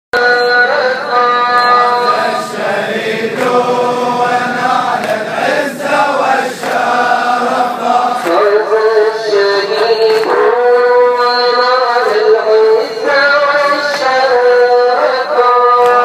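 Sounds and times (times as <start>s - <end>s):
crowd of men chanting: 0.2s - 16.0s.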